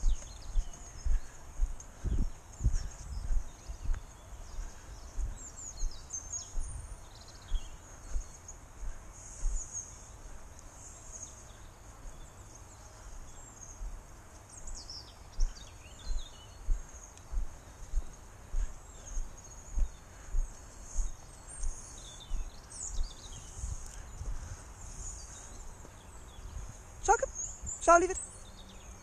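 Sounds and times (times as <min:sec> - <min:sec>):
footsteps on dirt track: 0:00.0 - 0:27.9
songbirds chirping: 0:00.0 - 0:29.0.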